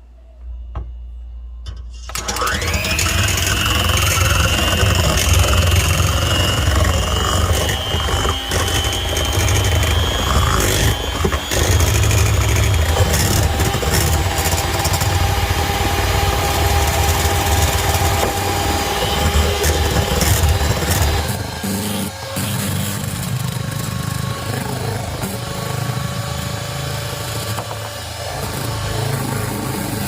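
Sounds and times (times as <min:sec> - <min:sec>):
electric mixer motor whining: 0:02.0 - 0:30.0.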